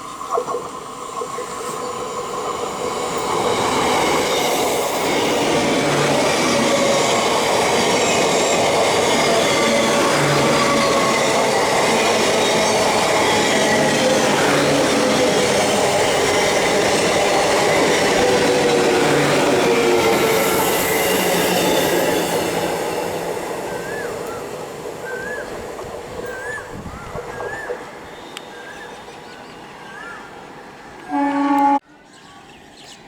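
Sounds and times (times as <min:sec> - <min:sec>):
train wheels on rails: 0:00.0 - 0:31.2.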